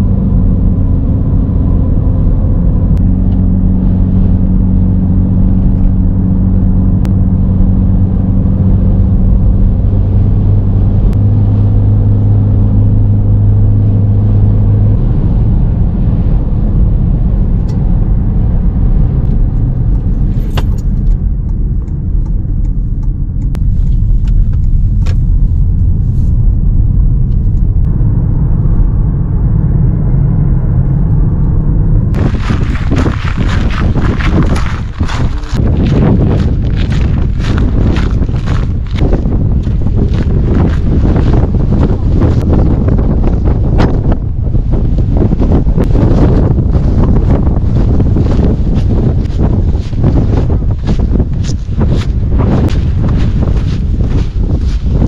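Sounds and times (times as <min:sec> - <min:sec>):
car engine and road noise: 0:00.0 - 0:55.0
low steady hum: 0:00.0 - 0:55.0.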